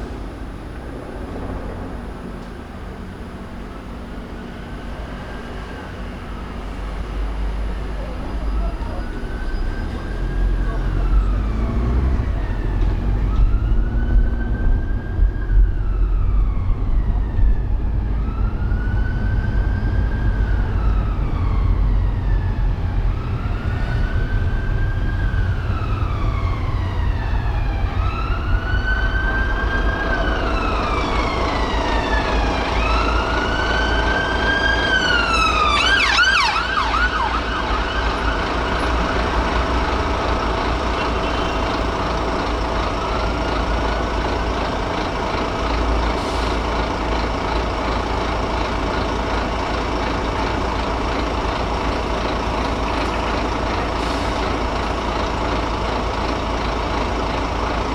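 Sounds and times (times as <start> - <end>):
emergency siren wailing: 0.0 - 57.9
road noise rumble: 0.0 - 57.9.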